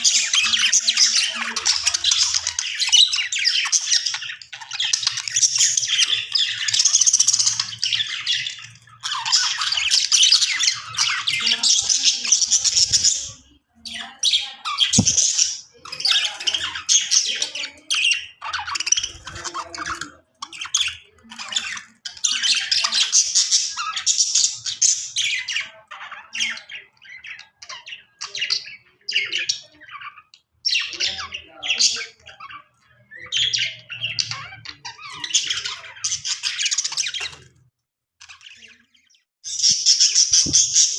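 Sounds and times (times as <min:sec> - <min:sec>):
budgerigar chirping and warbling: 0:00.0 - 0:37.5.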